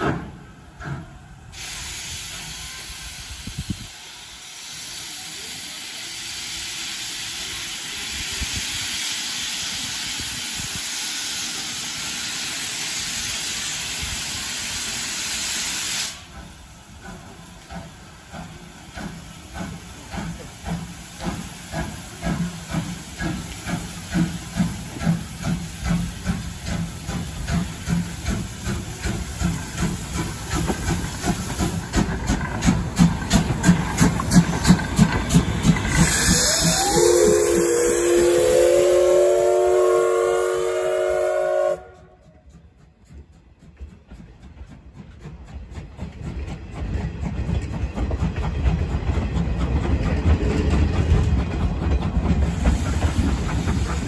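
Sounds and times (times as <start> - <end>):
loud steam hiss: 0.0 - 43.0, 51.8 - 54.0
steam locomotive exhaust chuffs: 0.0 - 54.0.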